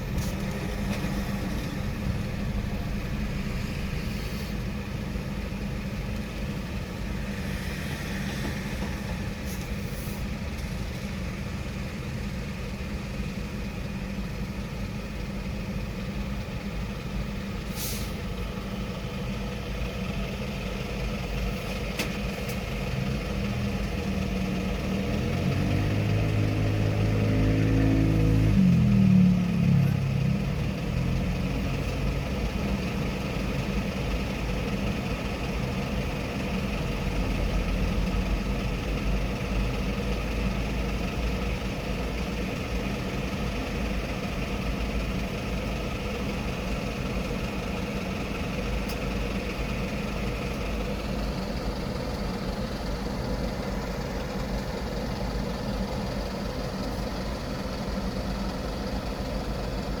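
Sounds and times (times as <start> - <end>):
engine idling nearby: 0.0 - 60.0
traffic engine rumble: 0.0 - 60.0.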